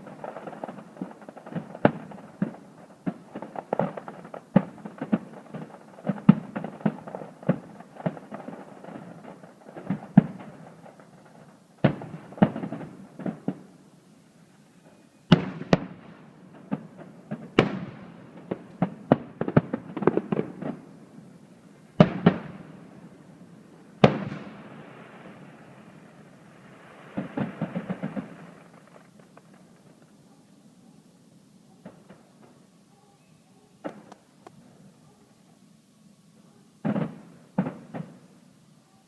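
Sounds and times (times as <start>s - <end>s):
fireworks booming: 0.0s - 13.8s, 14.8s - 32.8s, 33.7s - 34.9s, 36.8s - 38.5s
fireworks crackling: 0.0s - 35.7s, 36.3s - 38.9s.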